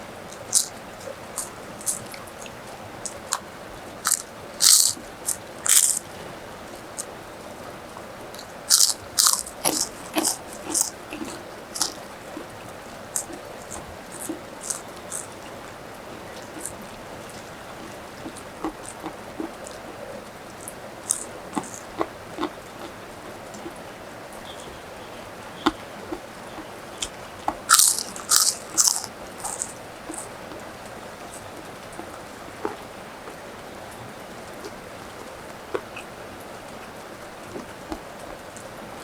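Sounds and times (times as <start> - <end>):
crunchy food chewing: 0.0 - 7.4, 8.3 - 36.2, 37.3 - 38.7.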